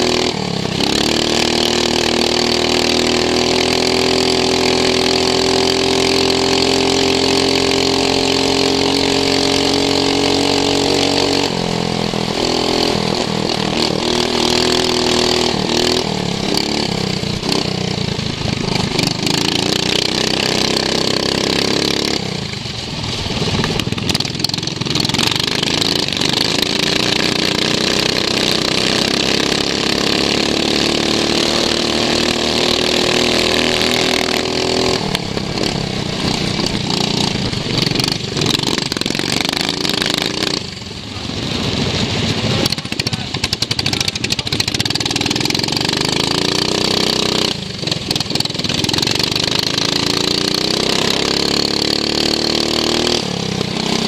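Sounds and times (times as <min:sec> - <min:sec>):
racing lawn mower engine revving: 0:00.0 - 0:54.0.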